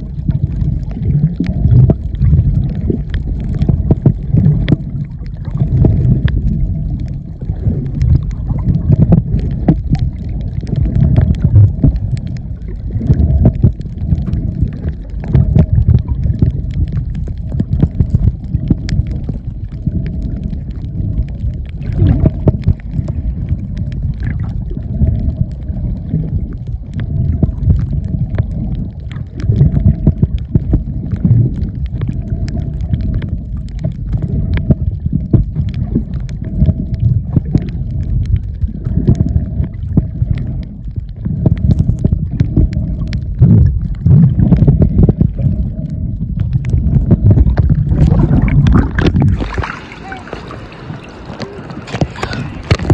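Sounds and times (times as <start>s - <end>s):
faint steady hum: 0.0s - 52.9s
underwater rumble of water: 0.0s - 52.9s
faint clicks: 0.8s - 49.3s.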